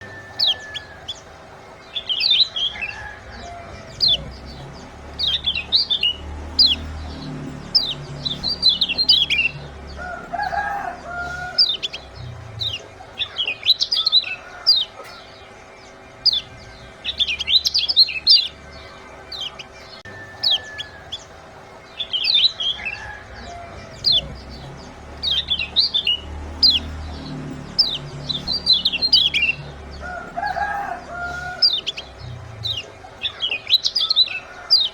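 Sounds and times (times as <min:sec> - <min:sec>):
bird clucking call: 0:00.0 - 0:34.9
songbird sharp chirps: 0:00.0 - 0:34.9.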